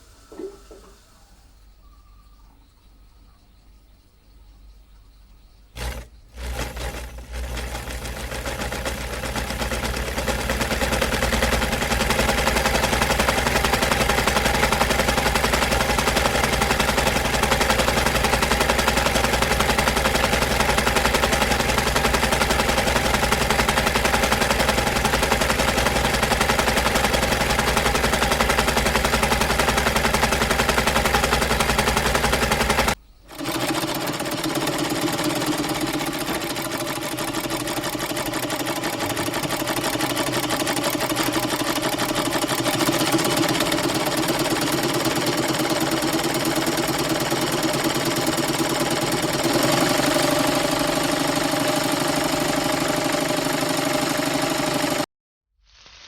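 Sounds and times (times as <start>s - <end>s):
motor hum: 5.5s - 55.1s
fast mechanical rattle: 5.7s - 55.1s.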